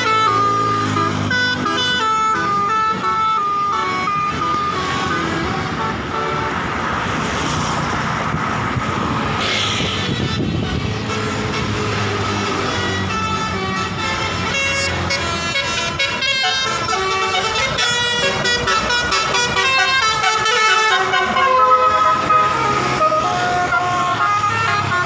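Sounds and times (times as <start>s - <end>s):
musical air horn playing tune: 0.0s - 6.6s, 9.4s - 25.0s
bus engine running: 0.0s - 25.0s.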